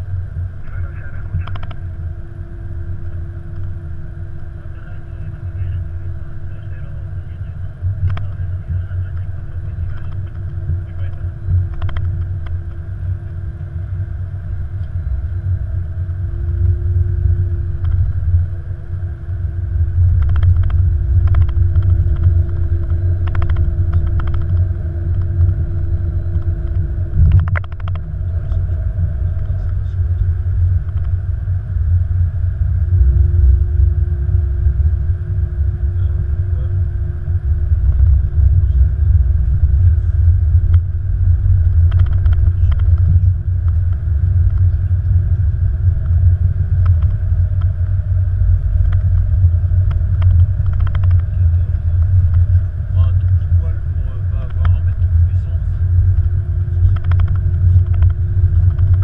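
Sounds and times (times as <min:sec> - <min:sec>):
airliner cockpit rumble: 0:00.0 - 0:59.0
constant hum: 0:00.0 - 0:59.0.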